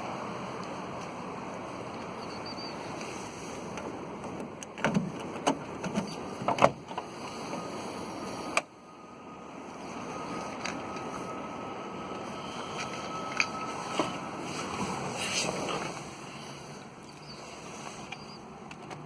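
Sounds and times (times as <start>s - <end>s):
car engine with leaking exhaust: 0.0s - 19.0s.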